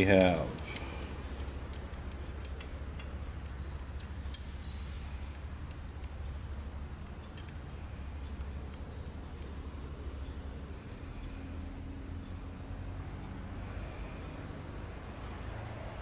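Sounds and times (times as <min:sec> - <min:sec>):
measuring gauges clicking: 0:00.0 - 0:14.4.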